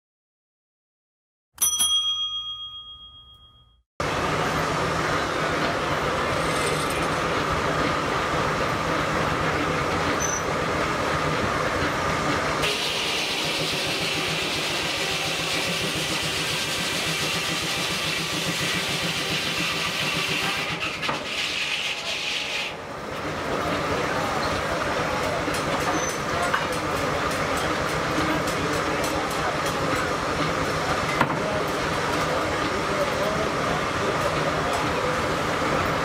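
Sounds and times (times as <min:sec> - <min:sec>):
sawmill machinery running: 0:04.0 - 0:36.0.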